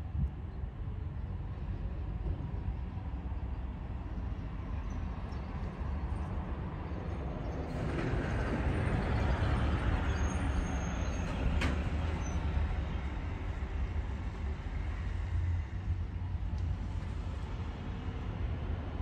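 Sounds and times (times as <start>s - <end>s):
distant traffic: 0.1s - 19.0s.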